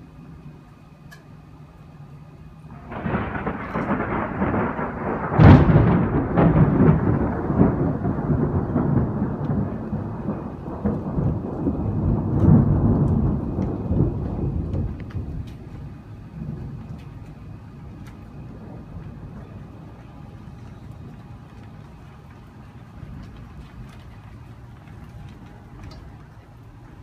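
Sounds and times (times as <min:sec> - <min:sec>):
thunder rolling and cracking: 0:02.7 - 0:27.0.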